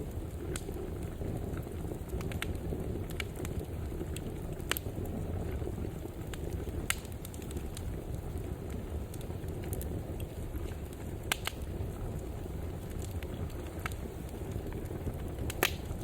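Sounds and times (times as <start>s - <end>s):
flames rushing in fireplace: 0.0s - 16.0s
wood fire crackling and popping: 0.0s - 16.0s.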